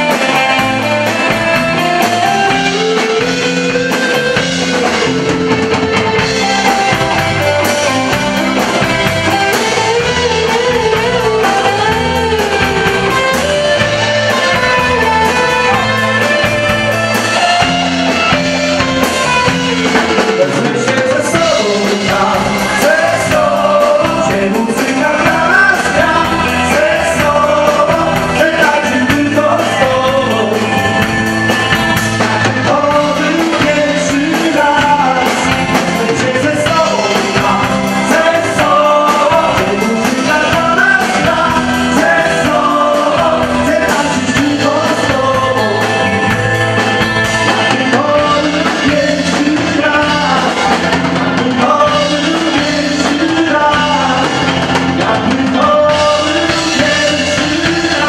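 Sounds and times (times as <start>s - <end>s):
drum kit beat: 0.0s - 58.0s
electric guitar: 0.0s - 58.0s
person singing: 0.0s - 58.0s.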